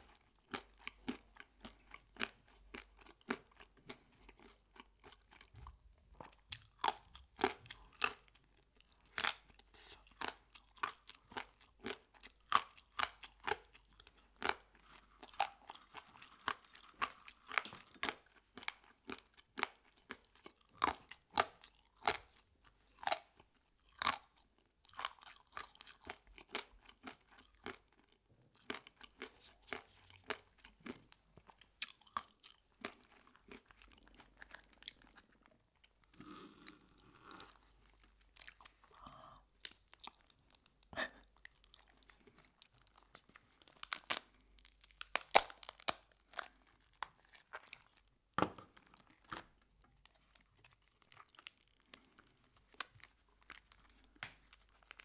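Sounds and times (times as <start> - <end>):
crunching crispy fried food: 0.0 - 55.0.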